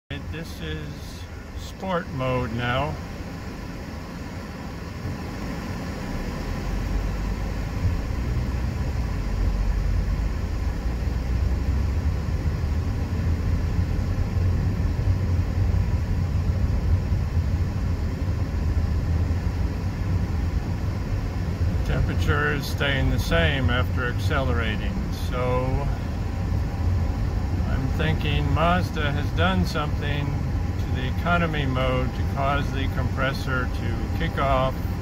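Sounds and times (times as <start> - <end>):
car engine and road rumble: 0.1 - 35.0.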